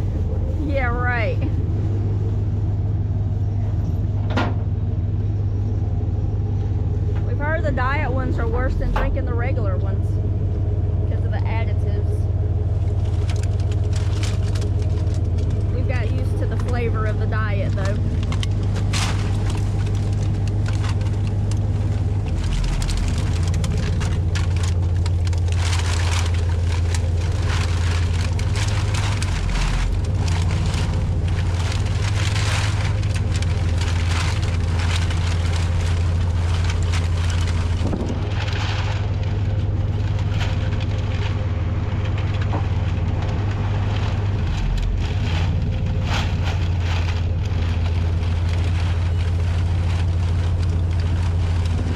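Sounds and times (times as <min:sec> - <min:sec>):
clattering and crackling: 0:00.0 - 0:51.9
loud engine drone: 0:00.0 - 0:51.9.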